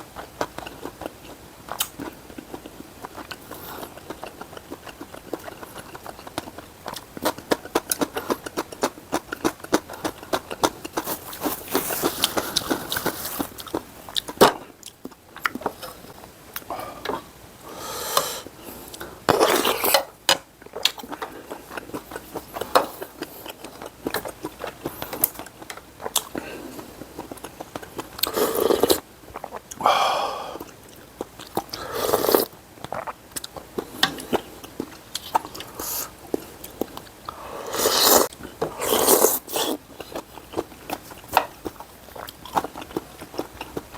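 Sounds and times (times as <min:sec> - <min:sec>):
chewing: 0:00.0 - 0:17.3, 0:18.1 - 0:43.9.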